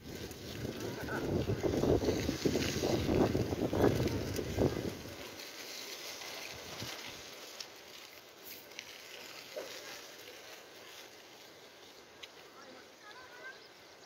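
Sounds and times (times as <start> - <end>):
light bike clicks: 0.0 - 12.6
bike tyres hissing: 0.0 - 14.0.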